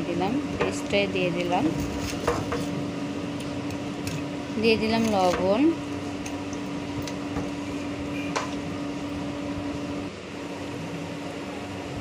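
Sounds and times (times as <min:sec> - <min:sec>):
steady low machine hum: 0:00.0 - 0:12.0.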